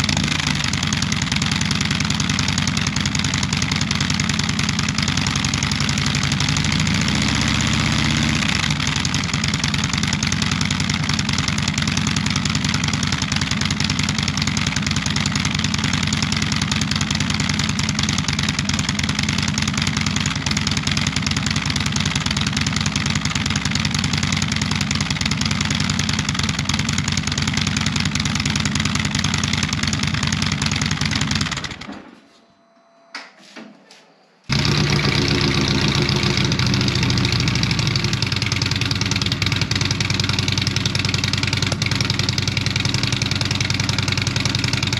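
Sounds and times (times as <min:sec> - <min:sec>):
motorcycle engine idling: 0:00.0 - 0:32.0, 0:34.5 - 0:44.9
motorcycle engine revving: 0:00.0 - 0:32.0, 0:34.5 - 0:44.9.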